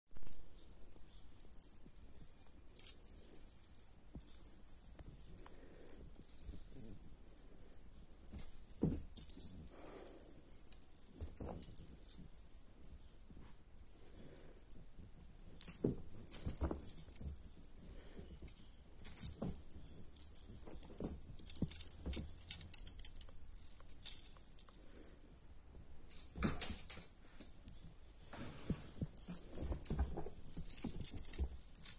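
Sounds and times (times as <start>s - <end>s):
small jingle bell rattling: 0.2s - 27.7s, 28.9s - 31.9s.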